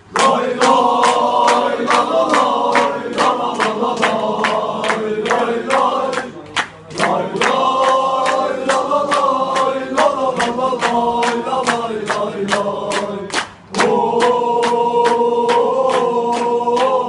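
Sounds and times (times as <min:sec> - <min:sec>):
crowd singing a chant: 0:00.0 - 0:17.0
claps or drum beat: 0:00.1 - 0:17.0.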